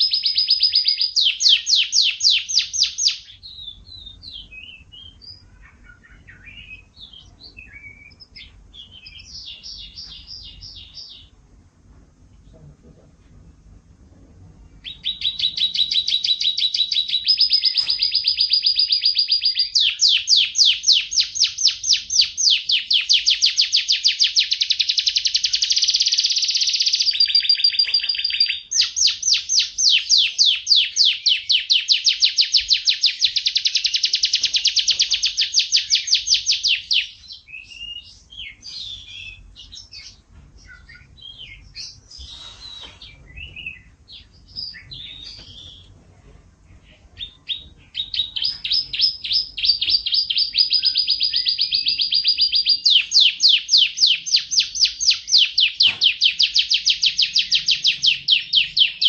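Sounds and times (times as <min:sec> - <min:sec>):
canary singing trills: 0:00.0 - 0:11.6, 0:14.6 - 0:46.0, 0:46.7 - 0:59.0.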